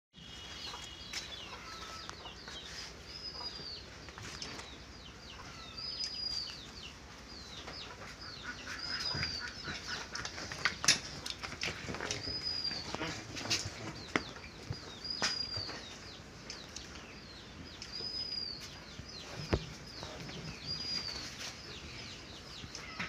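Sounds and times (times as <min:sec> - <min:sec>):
small birds chirping: 0:00.2 - 0:23.0.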